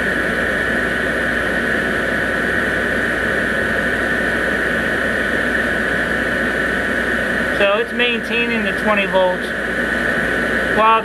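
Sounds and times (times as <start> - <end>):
electric blower fan drone: 0.0 - 11.0.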